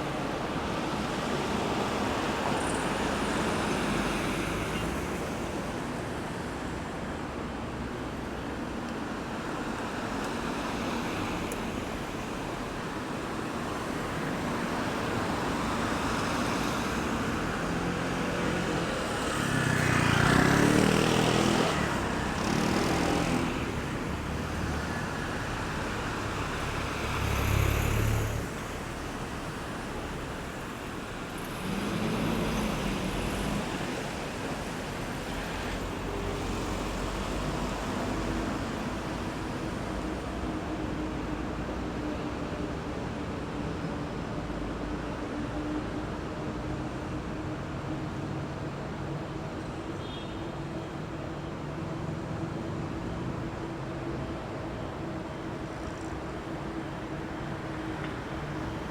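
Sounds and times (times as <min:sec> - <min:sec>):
road traffic hum: 0:00.0 - 0:58.9.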